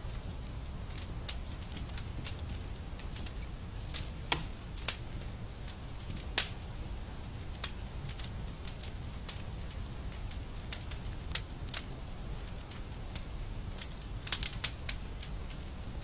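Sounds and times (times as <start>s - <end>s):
fireplace fire crackling and popping: 0.0s - 16.0s.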